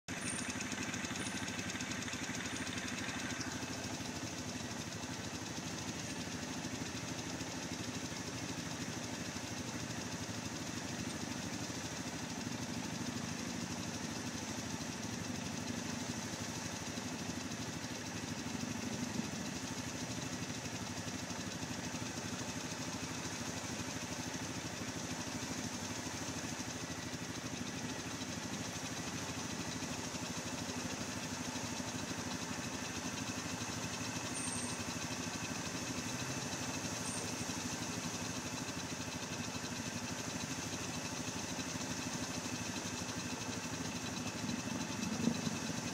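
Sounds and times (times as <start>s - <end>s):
atv engine running: 0.1s - 45.9s.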